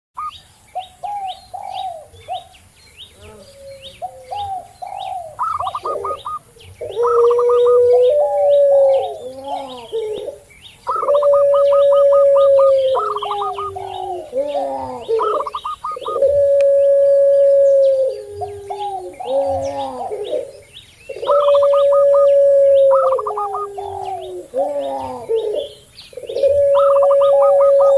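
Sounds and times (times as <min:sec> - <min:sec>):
small birds chirping: 0:00.2 - 0:27.9
doves cooing: 0:03.1 - 0:27.9.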